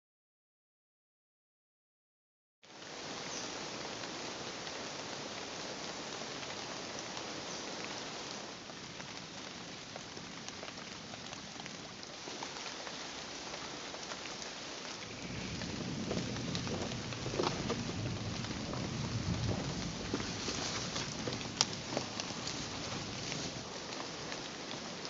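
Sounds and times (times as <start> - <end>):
rain falling on foliage: 2.6 - 25.0.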